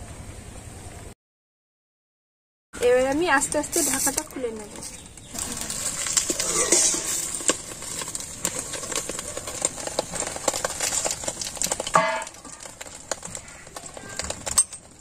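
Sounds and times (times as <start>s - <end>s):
food crackling and sizzling in oil: 2.8s - 15.0s.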